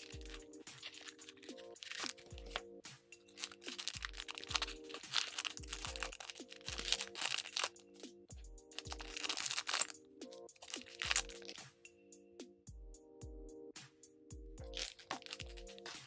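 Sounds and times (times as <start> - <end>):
background music with a beat: 0.0 - 16.0.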